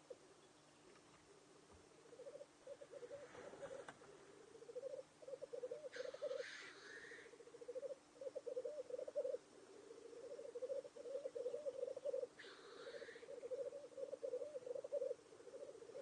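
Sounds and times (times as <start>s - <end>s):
hoarse hissing bird calls: 2.1s - 16.0s.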